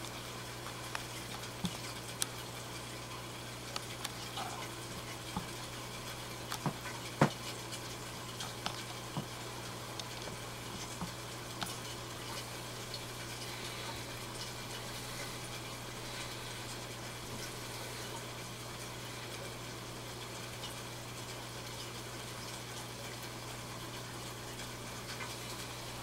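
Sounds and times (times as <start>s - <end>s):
aquarium equipment hum: 0.0s - 26.0s.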